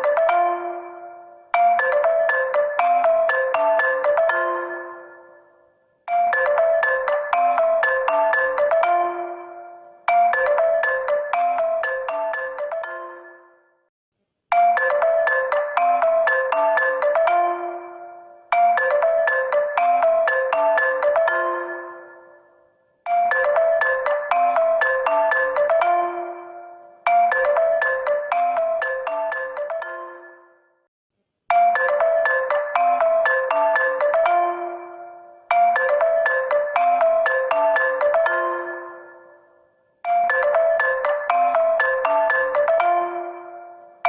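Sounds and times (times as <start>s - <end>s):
phone ringtone melody: 0.0s - 13.9s, 14.5s - 30.9s, 31.5s - 44.0s.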